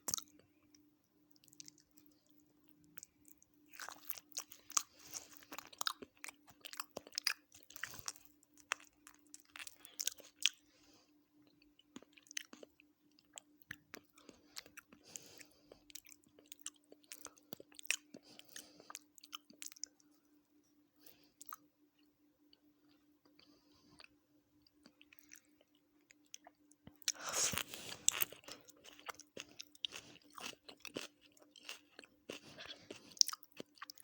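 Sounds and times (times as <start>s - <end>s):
person chewing food: 0.0s - 20.4s, 21.0s - 34.0s.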